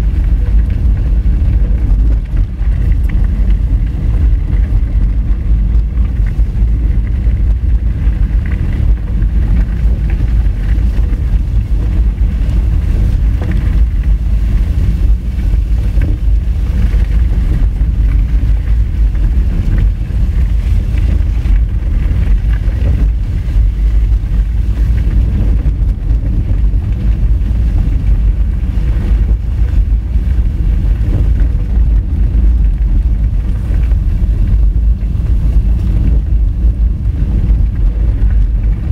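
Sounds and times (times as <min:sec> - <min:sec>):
car tyres rumbling on dirt road: 0:00.0 - 0:38.9
wind on microphone: 0:00.0 - 0:38.9.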